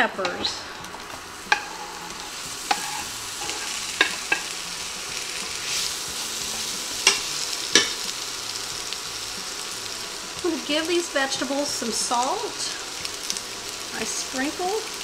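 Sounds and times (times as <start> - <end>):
onions and peppers sizzling: 0.0 - 15.0.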